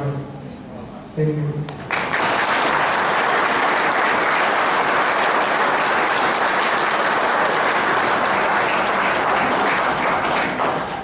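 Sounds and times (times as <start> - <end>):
audience applause: 1.9 - 11.0.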